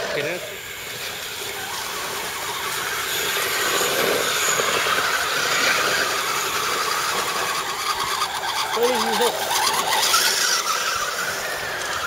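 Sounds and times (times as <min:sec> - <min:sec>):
small electric motors whirring: 0:00.0 - 0:12.0.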